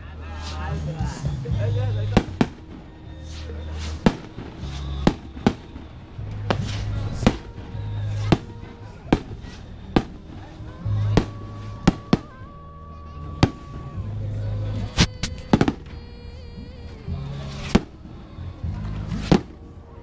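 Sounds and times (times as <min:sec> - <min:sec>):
firecrackers banging: 0:00.0 - 0:16.2, 0:17.2 - 0:20.0.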